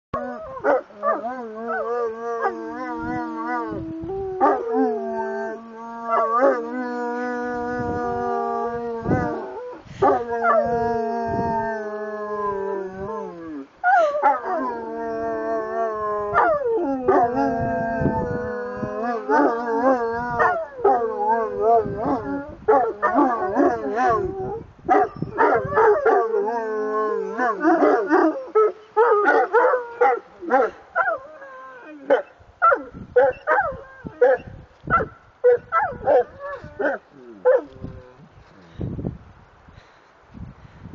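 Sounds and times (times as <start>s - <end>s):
dogs howling: 0.2s - 34.5s.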